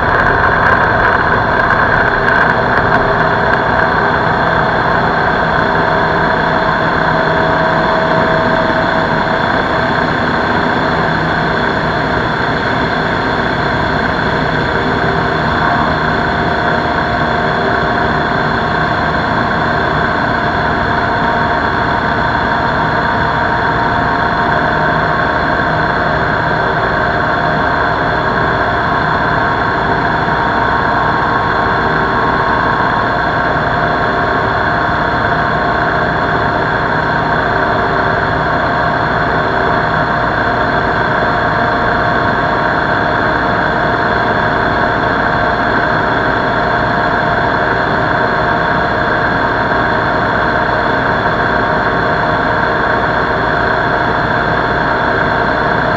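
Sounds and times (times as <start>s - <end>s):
aircraft engine and propeller drone: 0.0s - 55.9s.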